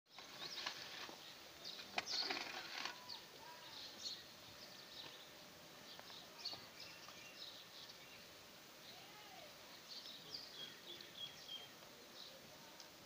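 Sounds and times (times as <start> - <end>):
faint small birds chirping: 0.1 - 13.0.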